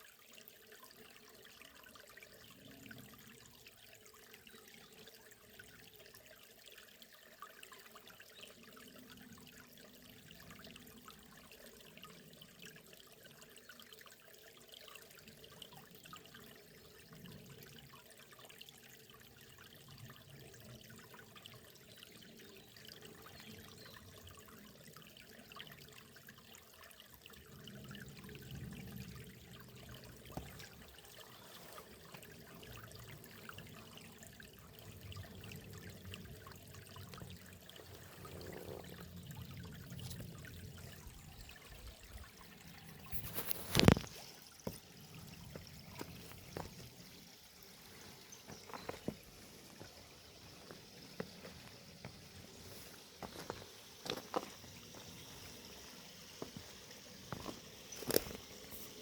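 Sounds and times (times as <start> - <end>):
small river burbling over stones: 0.0 - 59.0.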